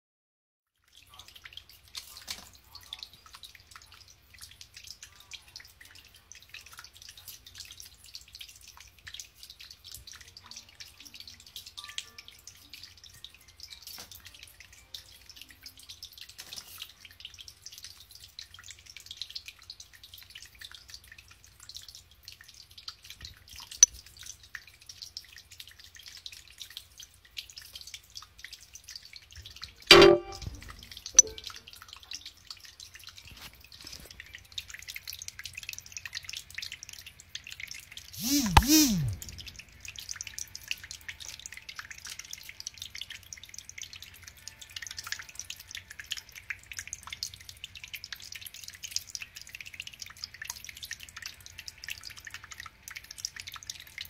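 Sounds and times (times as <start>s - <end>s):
water trickling and dripping: 0.8s - 54.0s.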